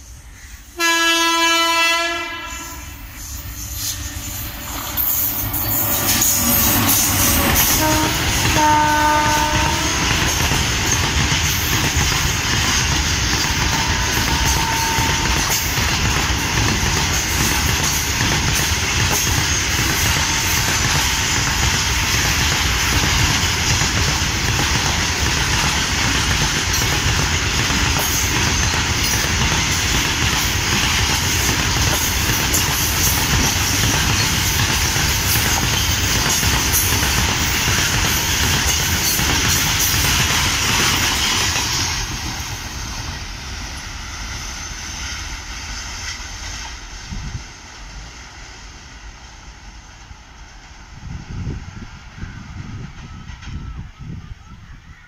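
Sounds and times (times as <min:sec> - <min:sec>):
freight train wheels clattering: 0:02.9 - 0:51.6.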